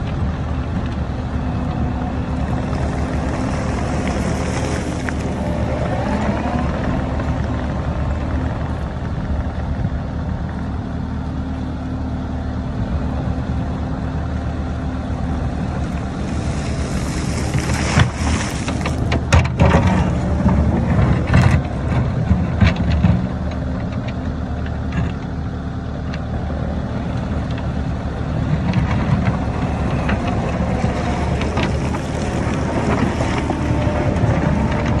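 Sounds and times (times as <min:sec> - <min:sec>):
diesel engine running under load: 0:00.0 - 0:35.0.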